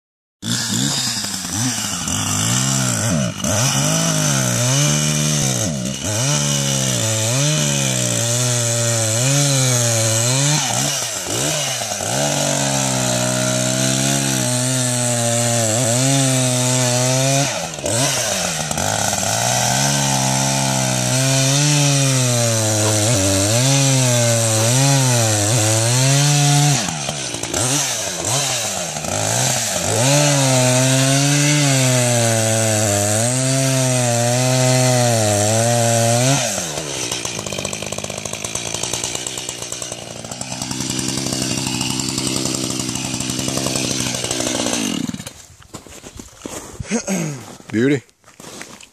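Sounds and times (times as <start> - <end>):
chainsaw cutting ice: 0.4 - 48.9.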